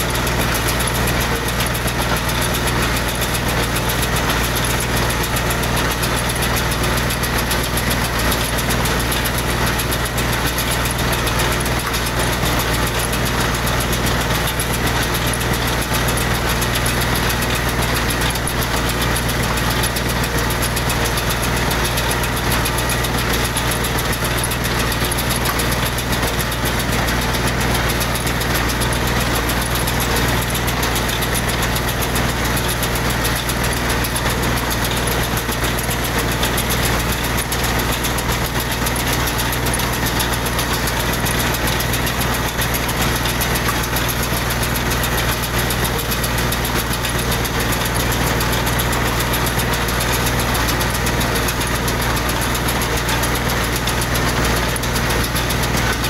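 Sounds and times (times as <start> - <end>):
hay baler working: 0.0 - 56.0
tractor engine running under load: 0.0 - 56.0.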